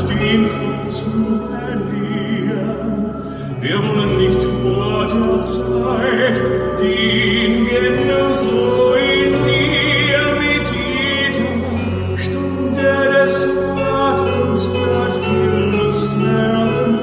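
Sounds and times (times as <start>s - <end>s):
orchestra playing sustained chords: 0.0s - 17.0s.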